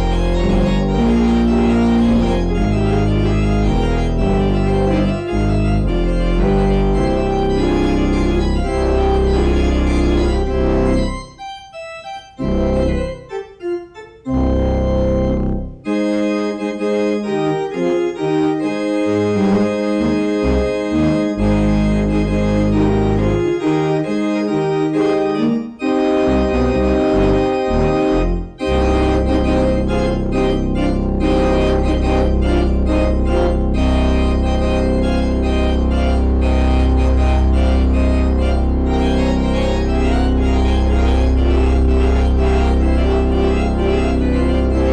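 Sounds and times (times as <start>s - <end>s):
church organ playing: 0.0s - 44.9s.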